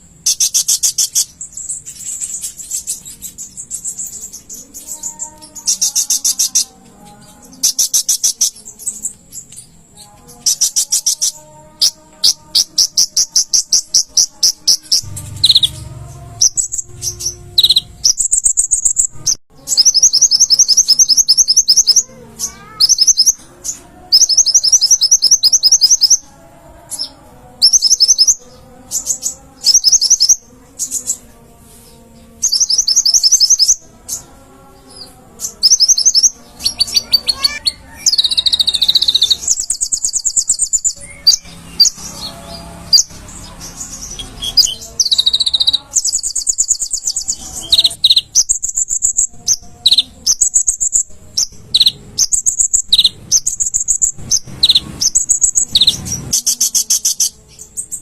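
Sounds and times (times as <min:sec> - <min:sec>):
sunbird trilling: 0:00.2 - 0:26.3, 0:35.4 - 0:57.4.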